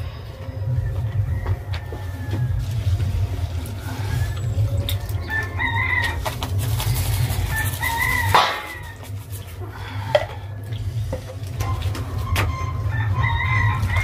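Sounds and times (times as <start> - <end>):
chickens calling: 0.0 - 14.0
steady low rumble: 0.0 - 14.0.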